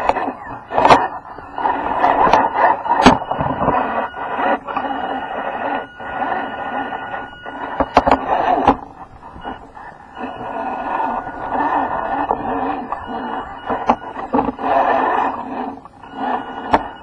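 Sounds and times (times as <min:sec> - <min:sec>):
small electric motor and gearbox: 0:00.0 - 0:17.0.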